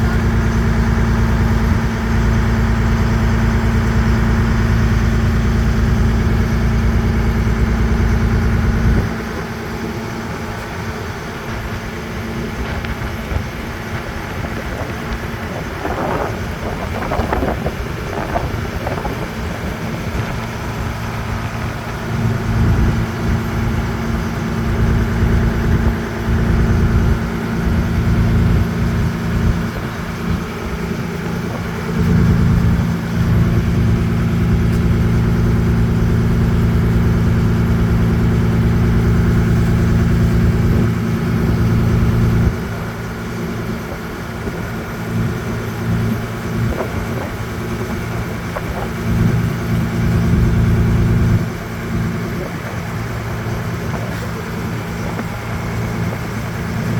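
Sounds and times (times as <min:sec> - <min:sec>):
boat engine humming: 0:00.0 - 0:56.9.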